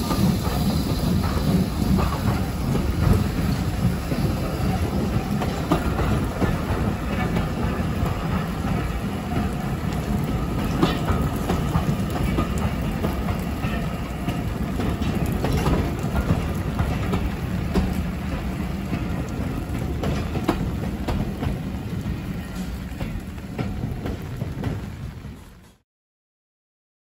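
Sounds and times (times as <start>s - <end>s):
train wheels clattering over rail joints: 0.0s - 25.8s.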